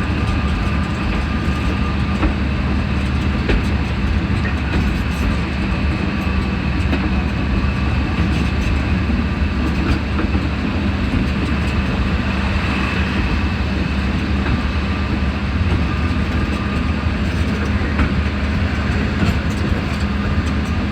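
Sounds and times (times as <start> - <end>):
diesel engine droning: 0.0 - 20.9.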